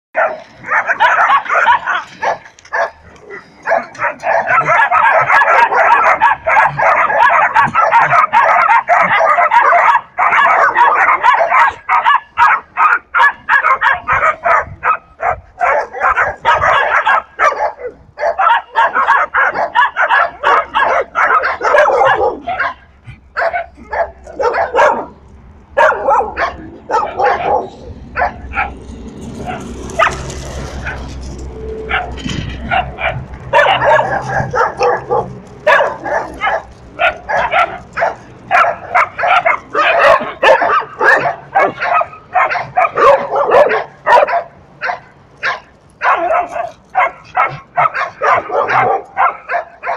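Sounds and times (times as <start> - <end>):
dogs barking: 0.2 - 49.9.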